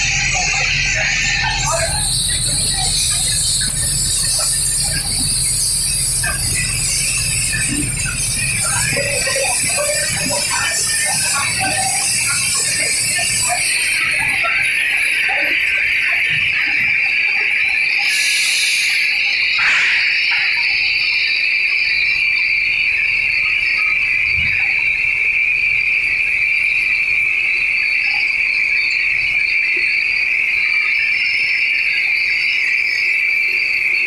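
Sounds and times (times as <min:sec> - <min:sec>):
machinery high-pitched whine: 0:00.0 - 0:34.0.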